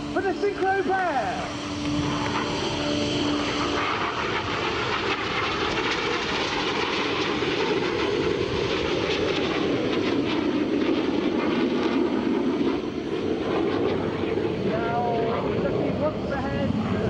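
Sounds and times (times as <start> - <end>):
jet engines in flight: 0.0 - 17.0.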